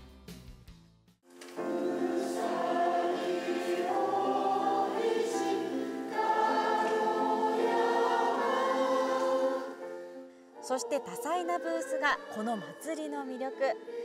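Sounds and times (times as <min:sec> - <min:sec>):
mixed choir singing: 0:01.5 - 0:14.0.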